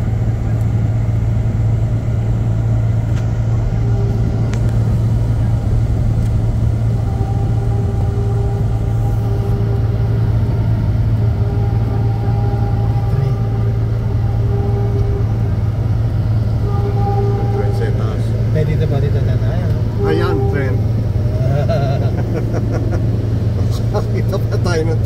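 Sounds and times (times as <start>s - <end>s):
car cabin hum and rumble: 0.0s - 25.0s
faint high whine: 0.0s - 25.0s.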